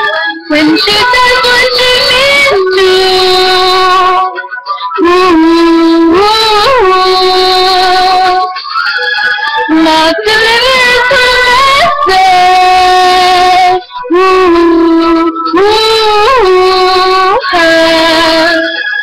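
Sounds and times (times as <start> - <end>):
woman singing without words: 0.0 - 8.6, 9.7 - 18.8.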